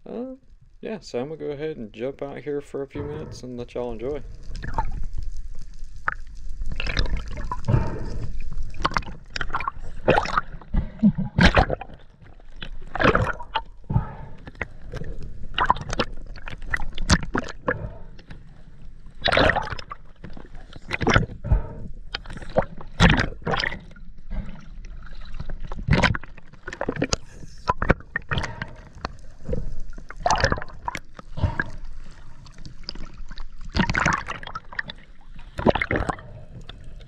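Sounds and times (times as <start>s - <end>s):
water gurgling and sloshing: 2.8s - 37.0s
underwater bubbling and splashing: 3.0s - 37.0s.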